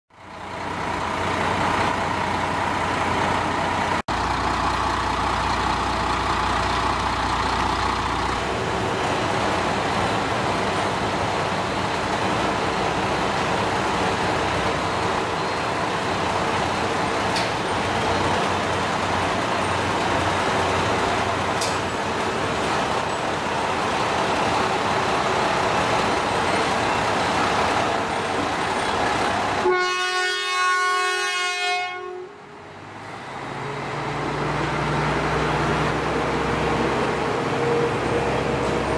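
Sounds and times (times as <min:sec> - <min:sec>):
diesel railcar engine rumble: 0:00.1 - 0:38.9.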